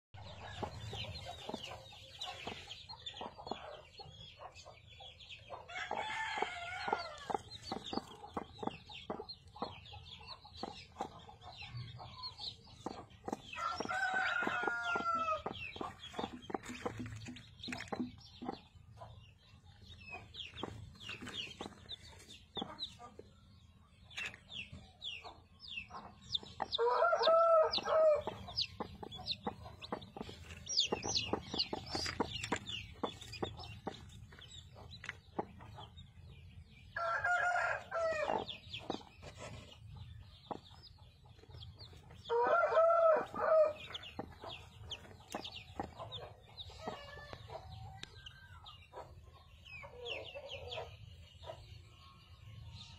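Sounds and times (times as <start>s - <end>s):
chicks peeping: 0.2s - 52.9s.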